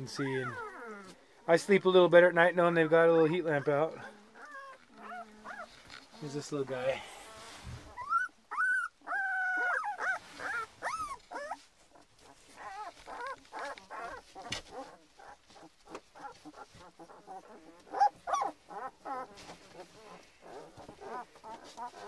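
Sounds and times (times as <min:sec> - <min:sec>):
puppy whining and crying: 0:00.0 - 0:01.3, 0:02.8 - 0:06.0, 0:06.8 - 0:22.0.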